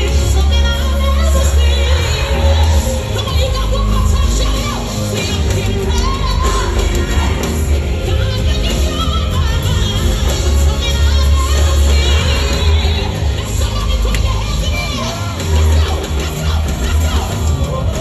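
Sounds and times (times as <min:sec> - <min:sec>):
gospel band playing: 0:00.0 - 0:18.0
singers' voices: 0:00.0 - 0:18.0.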